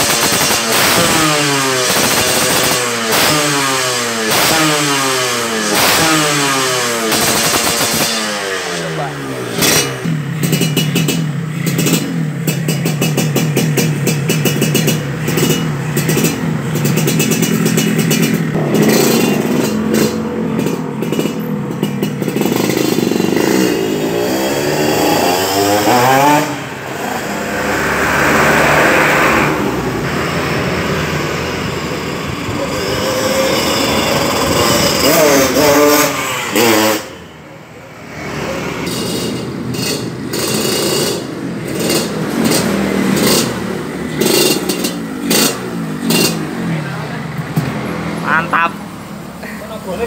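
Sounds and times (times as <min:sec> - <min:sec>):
motorcycle accelerating away: 0:00.0 - 0:50.0
motorcycle engine idling and revving: 0:00.0 - 0:50.0
street traffic passing: 0:00.0 - 0:50.0.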